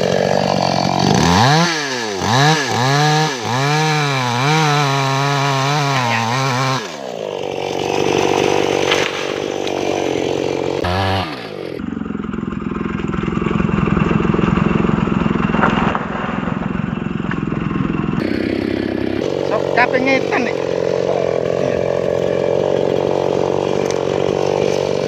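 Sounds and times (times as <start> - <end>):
chainsaw idling: 0.0 - 25.0.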